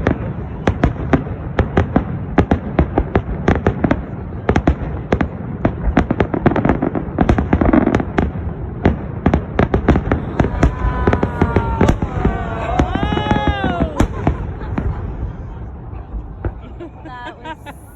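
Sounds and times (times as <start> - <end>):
fireworks bangs and crackling: 0.0 - 17.9.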